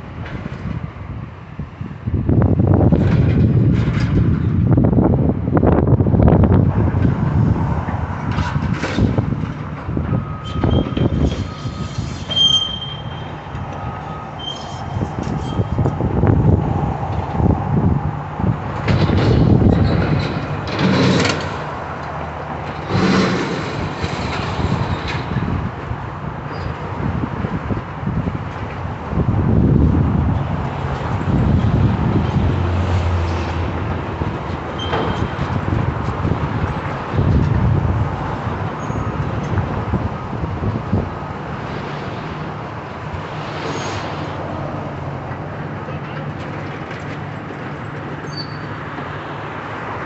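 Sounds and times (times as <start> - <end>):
diesel engine rumbling: 0.0 - 50.0
outdoor noise: 0.0 - 50.0.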